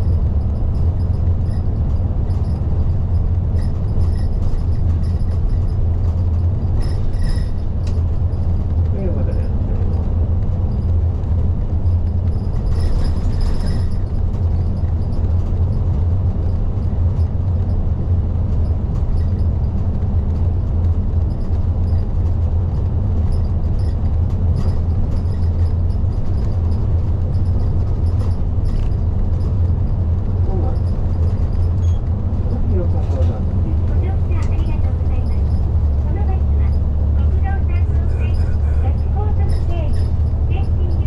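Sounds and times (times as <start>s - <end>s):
bus engine drone: 0.0s - 41.0s
road noise: 0.0s - 41.0s.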